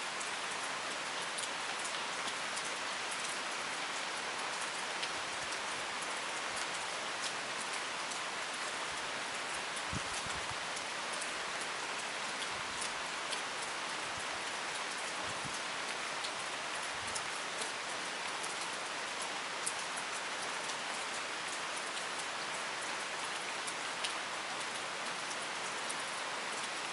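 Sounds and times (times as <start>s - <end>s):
steady rain hiss: 0.0s - 26.9s.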